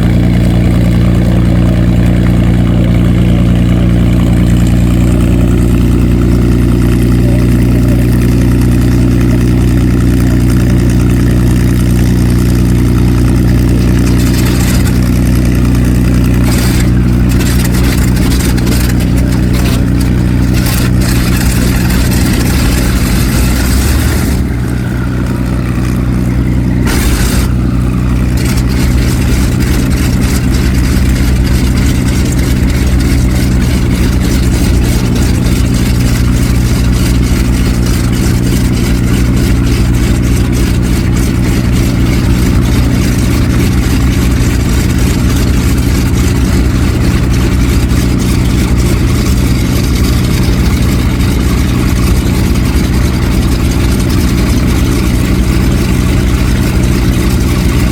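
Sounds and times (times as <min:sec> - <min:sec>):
radial aircraft engine droning: 0:00.0 - 0:57.9.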